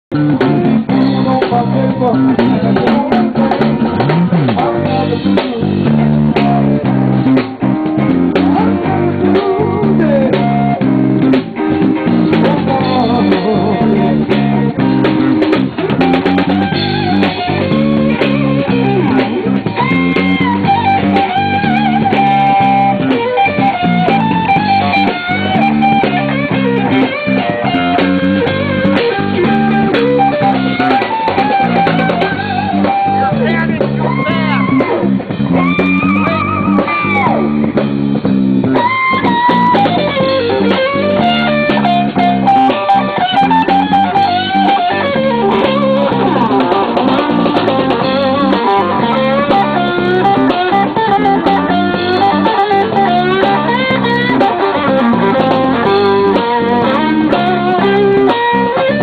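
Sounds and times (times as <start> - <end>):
electric blues band playing: 0.0 - 59.0
electric guitar with bent notes: 0.0 - 59.0.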